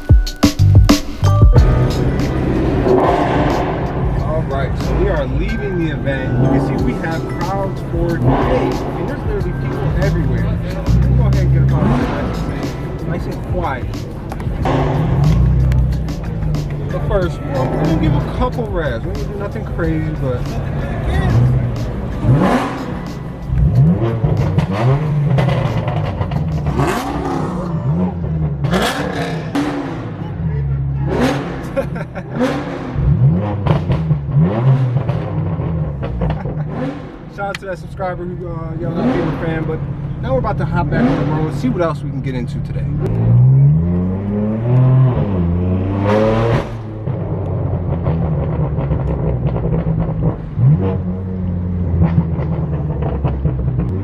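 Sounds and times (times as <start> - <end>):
car engine revving: 0.0 - 54.0
exhaust cracks: 0.0 - 54.0.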